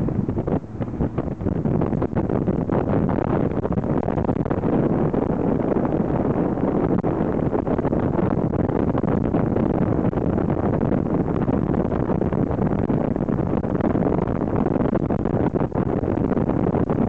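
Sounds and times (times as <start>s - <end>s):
motorboat engine rushing: 0.0s - 17.0s
water along hull: 0.0s - 17.0s
wind buffeting microphone: 0.0s - 17.0s.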